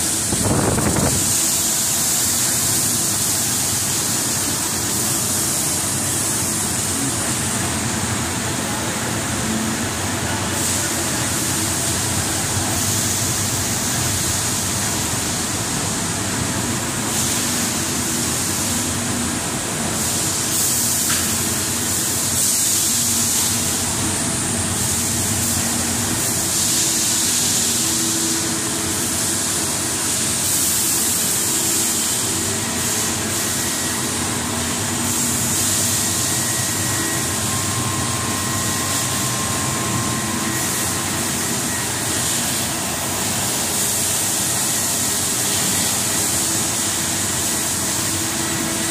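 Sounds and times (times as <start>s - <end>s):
continuous machine hiss: 0.0s - 48.9s.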